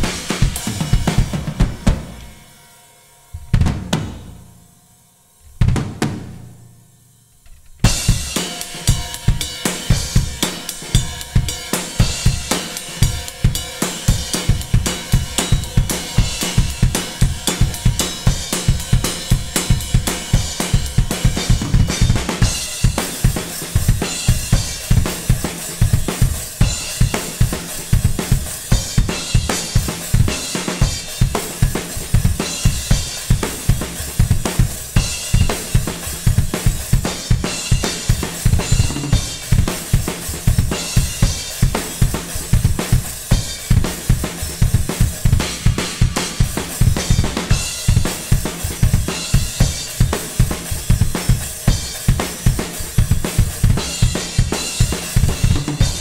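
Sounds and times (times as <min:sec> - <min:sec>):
drum kit playing fast beat: 0:00.0 - 0:04.8, 0:05.4 - 0:56.0.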